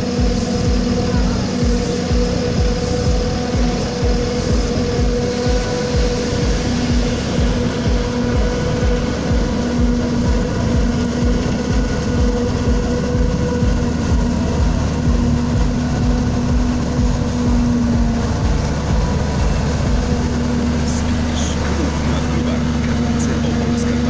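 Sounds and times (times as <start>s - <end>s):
constant hum: 0.0s - 24.0s
heavy engine drone: 0.0s - 24.0s.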